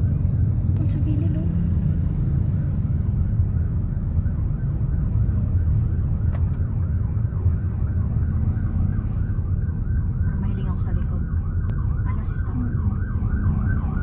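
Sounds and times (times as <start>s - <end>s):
car engine and road noise: 0.0s - 14.0s
faint yelping siren: 2.2s - 14.0s.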